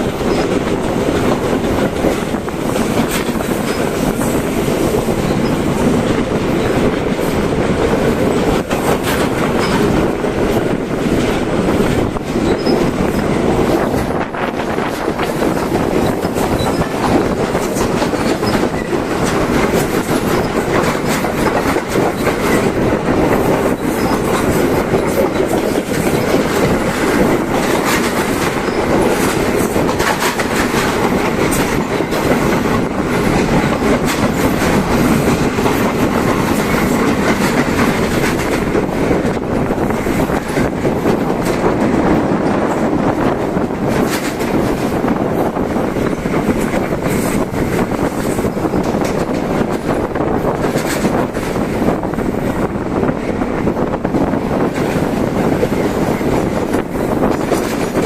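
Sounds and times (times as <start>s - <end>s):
train rumbling: 0.0s - 58.0s
wheels clattering over rail joints: 0.0s - 58.0s.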